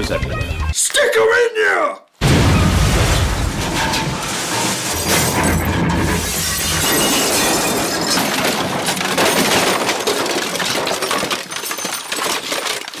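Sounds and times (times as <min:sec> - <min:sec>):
crashing and clattering: 0:02.2 - 0:13.0.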